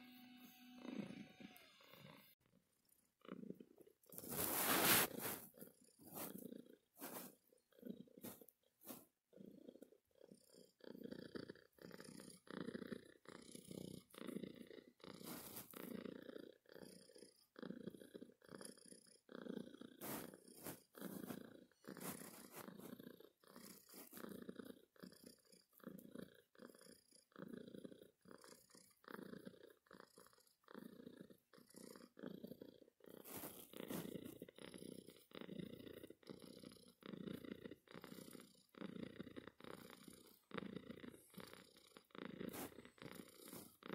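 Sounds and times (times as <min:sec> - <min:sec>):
cat purring: 0:00.0 - 0:43.9.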